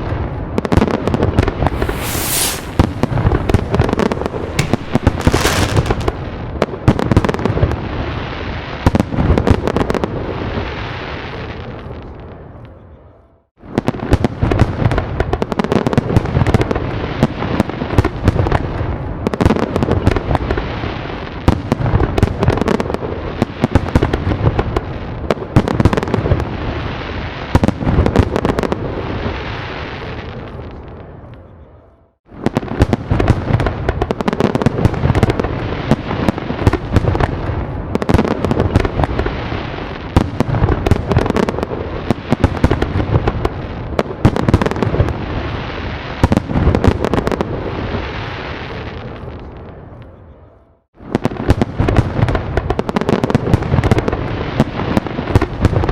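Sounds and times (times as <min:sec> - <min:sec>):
fireworks bangs and crackles: 0:00.0 - 0:12.8, 0:13.6 - 0:31.5, 0:32.3 - 0:50.4, 0:51.0 - 0:55.9.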